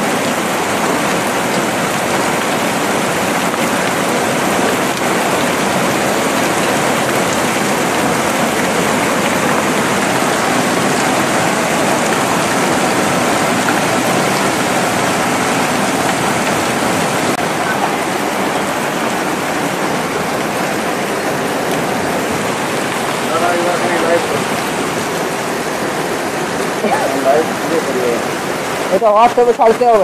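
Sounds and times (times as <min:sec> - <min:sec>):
heavy hail striking ground: 0:00.0 - 0:30.0.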